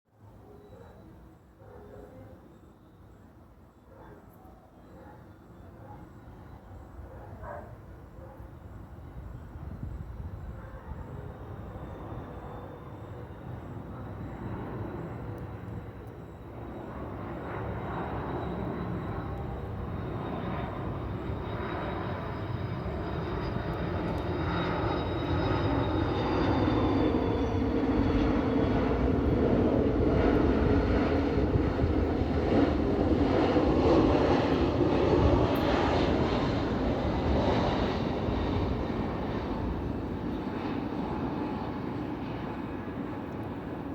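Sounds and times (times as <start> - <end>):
jet engines running: 7.9 - 43.9.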